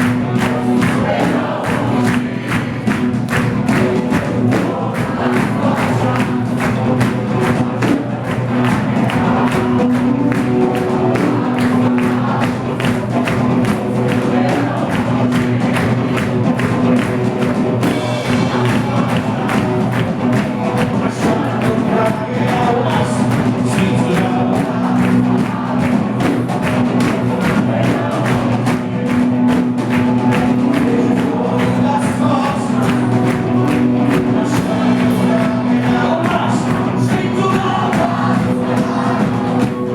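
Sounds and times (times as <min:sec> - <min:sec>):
live band music: 0:00.0 - 0:39.9
people singing: 0:00.0 - 0:39.9.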